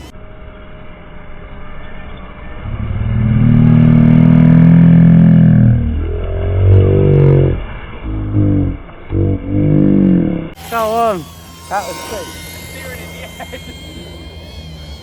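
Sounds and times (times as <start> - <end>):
motor revving: 1.5 - 15.0.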